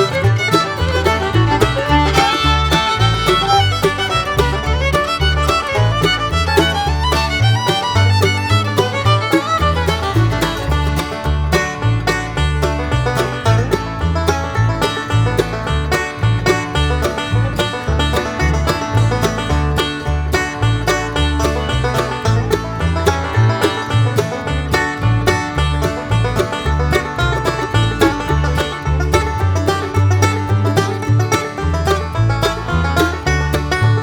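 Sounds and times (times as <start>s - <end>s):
bluegrass music: 0.0s - 34.0s
fast banjo picking: 0.0s - 34.0s
walking bass line: 0.0s - 34.0s.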